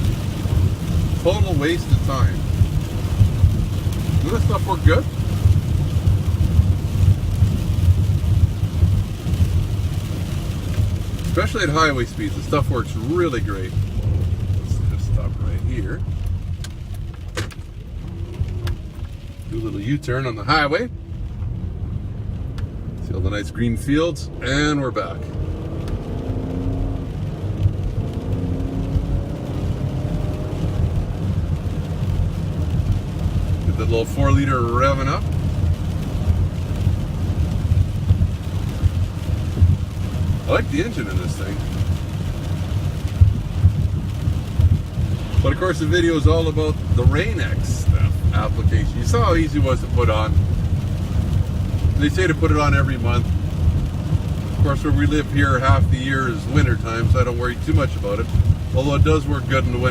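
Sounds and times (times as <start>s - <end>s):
rain hitting windshield: 0.0s - 59.9s
van engine and road noise: 0.0s - 59.9s.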